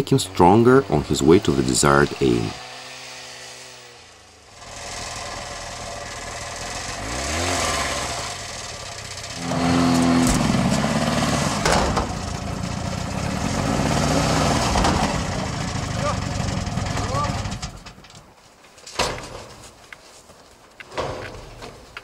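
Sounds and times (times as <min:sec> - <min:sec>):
louder engine running: 0:00.0 - 0:18.0
snowmobile engine running: 0:00.0 - 0:18.0.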